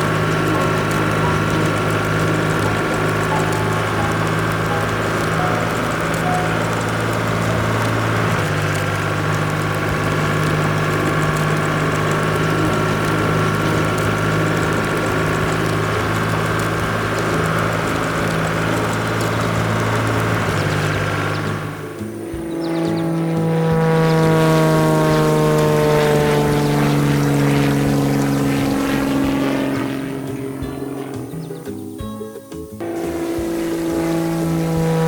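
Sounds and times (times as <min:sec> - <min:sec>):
cartoon engine idling: 0:00.0 - 0:35.0.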